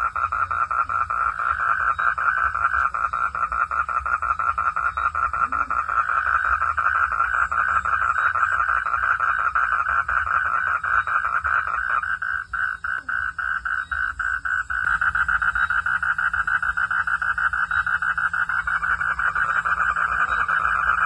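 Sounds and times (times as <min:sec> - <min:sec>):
frogs calling in rasping pulses: 0:00.0 - 0:21.0.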